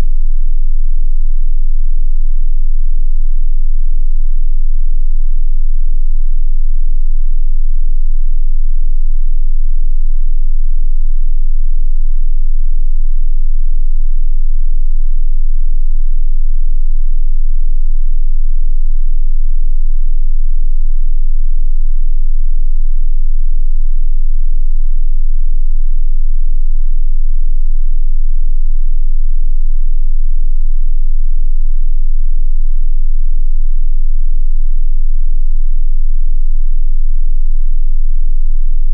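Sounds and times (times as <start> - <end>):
low sine test tone: 0.0 - 38.9.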